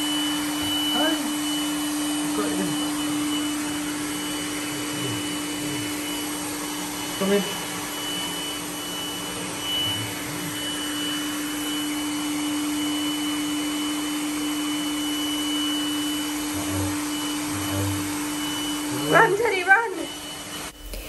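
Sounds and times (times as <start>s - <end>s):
robot vacuum cleaner humming: 0.0s - 21.0s.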